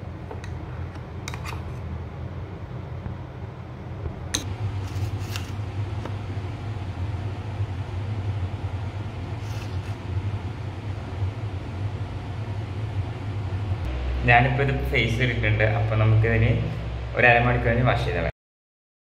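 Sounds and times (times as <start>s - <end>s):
low mechanical hum: 0.0s - 18.3s.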